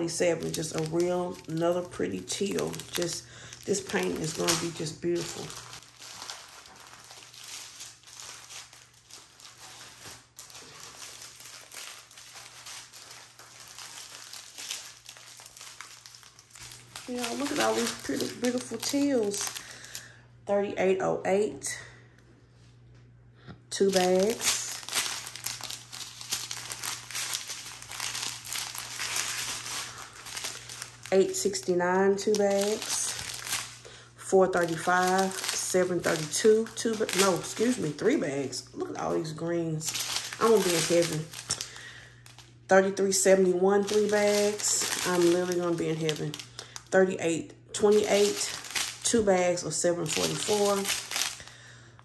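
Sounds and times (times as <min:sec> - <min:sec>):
small plastic bags crinkling: 0:00.0 - 0:20.2, 0:23.7 - 0:47.2, 0:47.8 - 0:51.7.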